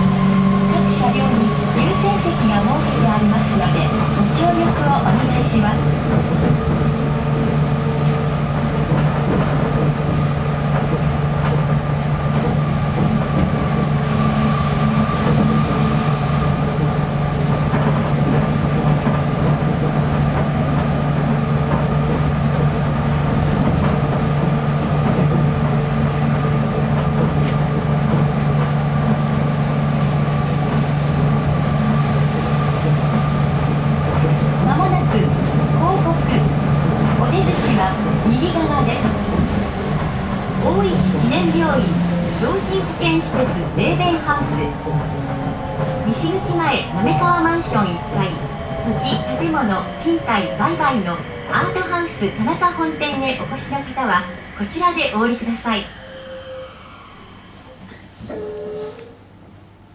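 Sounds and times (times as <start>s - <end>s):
train running low drone: 0.0s - 59.9s
train whine: 0.0s - 59.9s.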